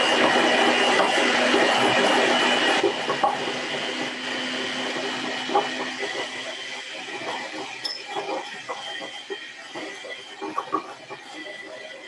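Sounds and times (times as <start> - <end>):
electric hand mixer whining: 0.0 - 12.0.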